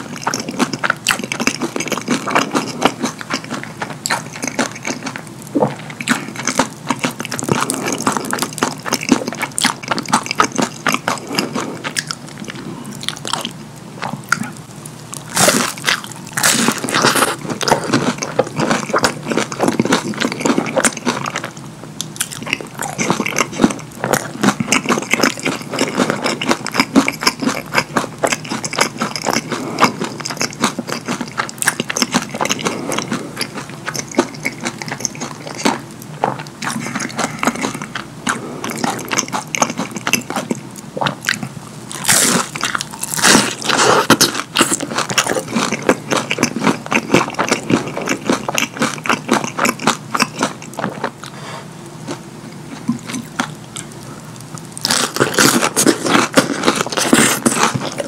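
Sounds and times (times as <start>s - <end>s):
crunchy biting: 0.0s - 51.3s, 52.1s - 58.0s.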